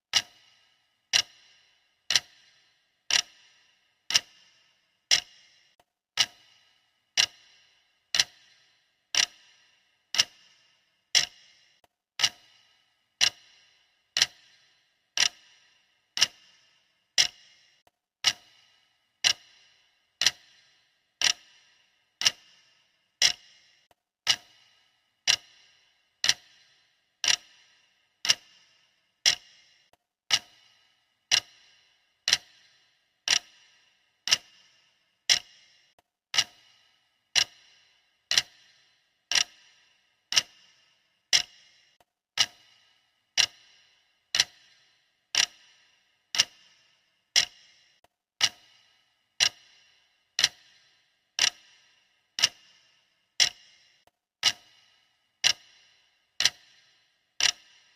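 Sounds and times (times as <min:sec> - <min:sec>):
clock ticking: 0:00.1 - 0:57.9.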